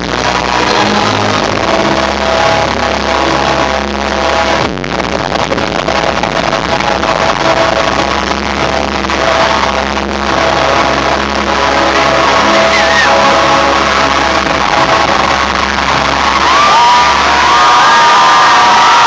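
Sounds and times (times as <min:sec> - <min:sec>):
distorted electronic dance music: 0:00.0 - 0:19.0.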